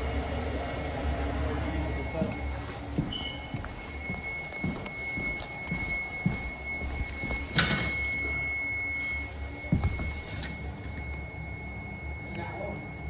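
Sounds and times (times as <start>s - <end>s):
boiler humming: 0.0s - 13.0s
steady high-pitched tone: 1.4s - 13.0s.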